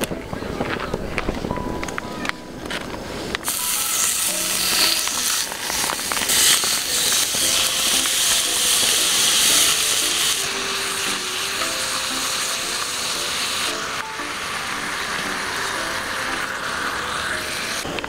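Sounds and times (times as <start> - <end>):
pork sizzling in a skillet: 3.4 - 18.0.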